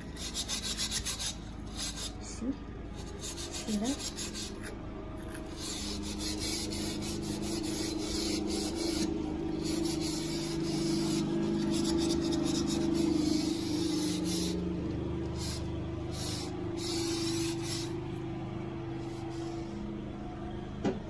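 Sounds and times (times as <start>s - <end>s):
steel wool scrubbing: 0.0s - 18.1s, 19.0s - 19.8s
low steady hum: 0.0s - 21.0s.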